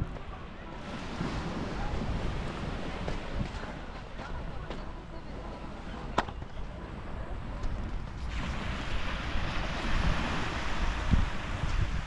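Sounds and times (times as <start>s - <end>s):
waves washing onto beach: 0.0s - 12.0s
wind rumbling on microphone: 0.0s - 12.0s.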